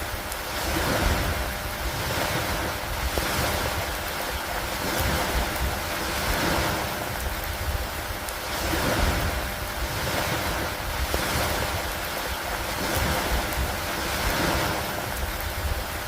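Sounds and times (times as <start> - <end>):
lake water: 0.0 - 16.0
steady rain: 0.0 - 16.0
wind: 0.0 - 16.0.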